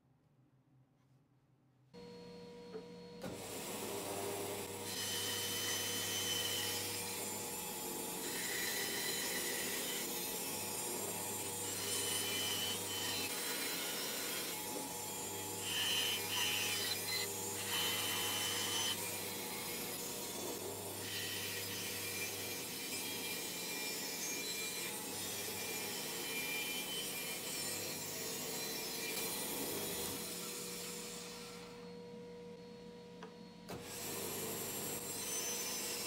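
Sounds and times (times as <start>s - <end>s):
electric saw cutting plywood: 3.2s - 31.9s, 33.7s - 36.0s.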